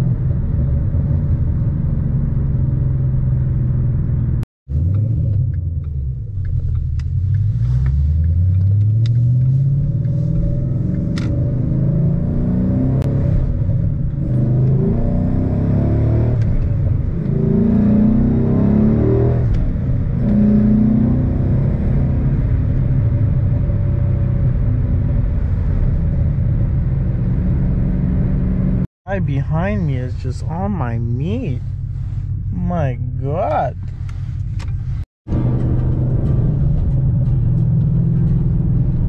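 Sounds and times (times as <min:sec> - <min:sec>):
car engine revving: 0:01.5 - 0:39.0.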